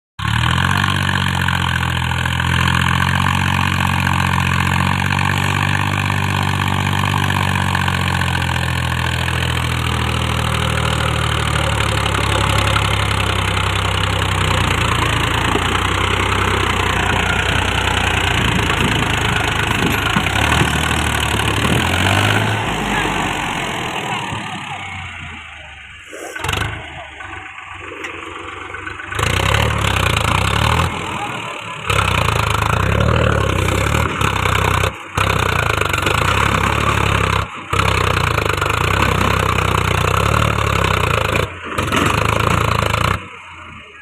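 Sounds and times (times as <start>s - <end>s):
tractor engine running: 0.2s - 44.0s.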